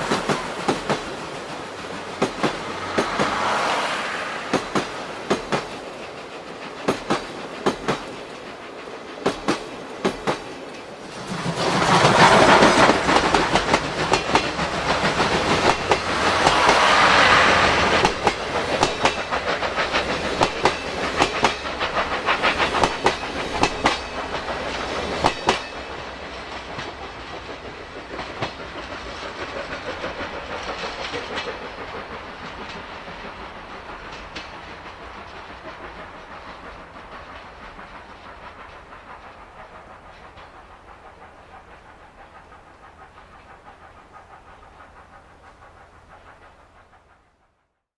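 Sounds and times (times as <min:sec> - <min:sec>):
wheels clicking over rail joints: 0:00.0 - 0:46.7
steam train passing: 0:00.0 - 0:47.9.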